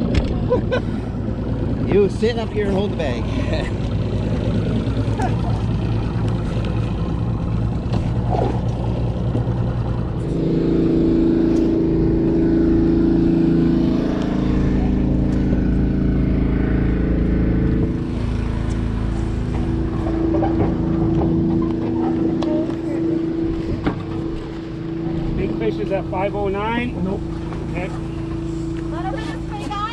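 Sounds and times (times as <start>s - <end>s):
higher engine note: 0.0s - 29.9s
outboard motor idling: 0.0s - 29.9s.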